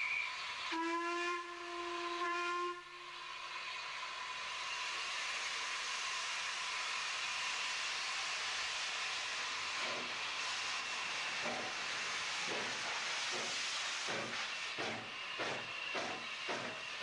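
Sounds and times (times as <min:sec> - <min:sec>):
steam hissing: 0:00.0 - 0:17.0
steam locomotive exhaust chuffs: 0:00.0 - 0:17.0.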